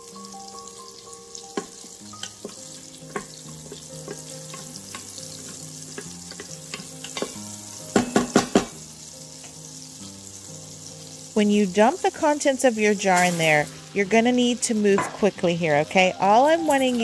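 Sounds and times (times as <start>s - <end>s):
butter and oil sizzling: 0.0s - 17.0s.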